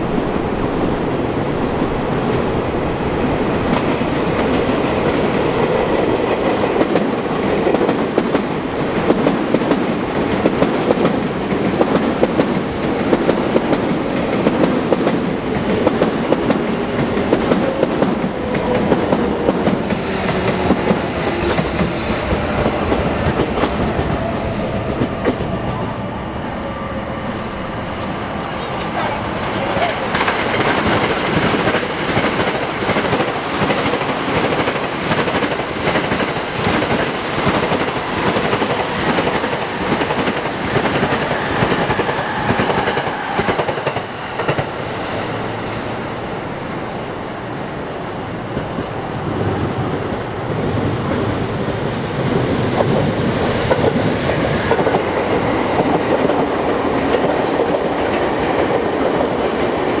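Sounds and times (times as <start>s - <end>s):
trains passing: 0.0s - 60.0s.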